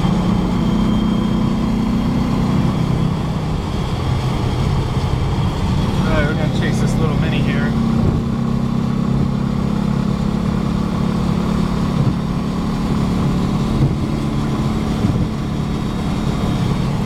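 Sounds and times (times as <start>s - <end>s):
car engine running: 0.0s - 17.0s
road noise: 0.0s - 17.0s
wind noise: 2.0s - 17.0s.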